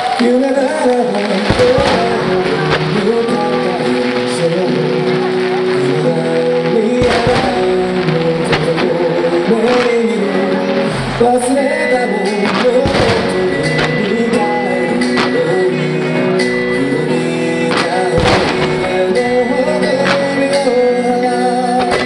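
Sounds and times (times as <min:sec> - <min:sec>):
song with singing and instruments: 0:00.0 - 0:22.0.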